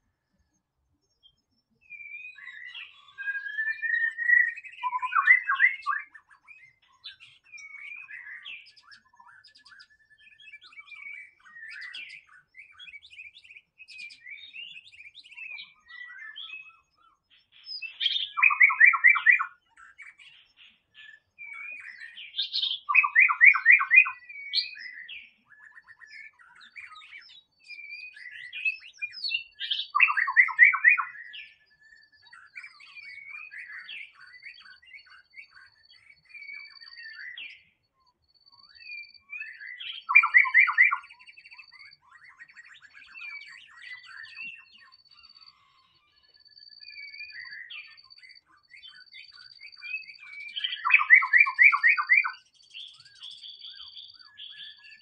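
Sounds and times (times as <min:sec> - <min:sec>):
bird singing whistles and chatters: 0:00.0 - 0:55.0.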